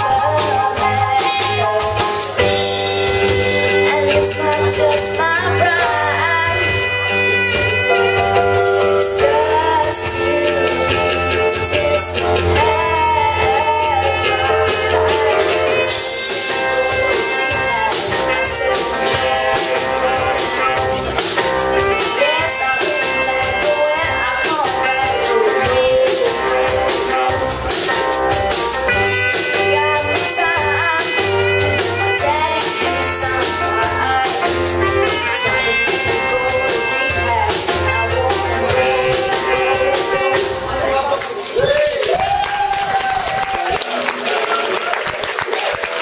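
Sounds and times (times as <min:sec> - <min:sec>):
woman singing: 0:00.0 - 0:08.2, 0:08.8 - 0:28.1, 0:28.7 - 0:41.1
live band playing: 0:00.0 - 0:46.0
saxophone held notes: 0:02.4 - 0:41.1.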